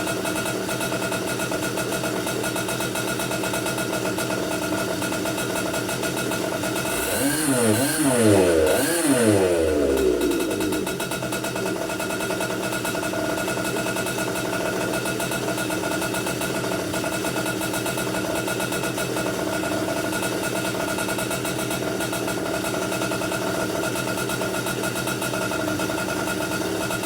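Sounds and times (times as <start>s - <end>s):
kart engine idling: 0.0s - 27.0s.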